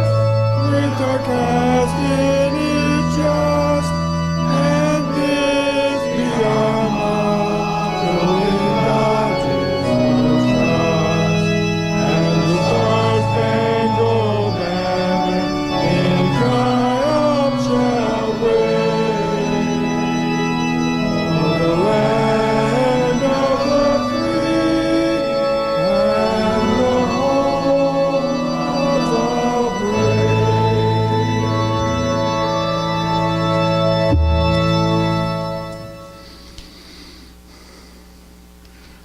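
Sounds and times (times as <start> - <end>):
organ playing a slow hymn: 0.0 - 39.0.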